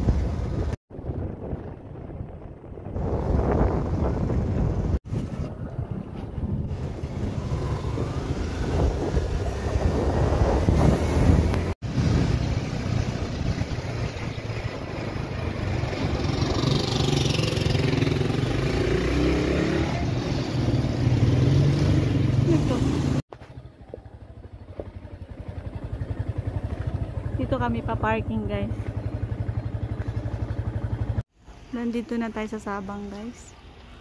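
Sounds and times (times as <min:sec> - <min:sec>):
motorcycle engine running: 0:00.0 - 0:31.2
road and wind noise: 0:00.0 - 0:34.0.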